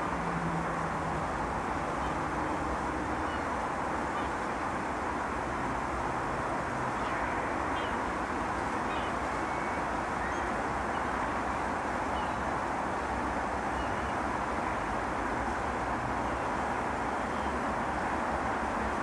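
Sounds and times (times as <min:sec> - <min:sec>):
outdoor background rush: 0:00.0 - 0:19.0.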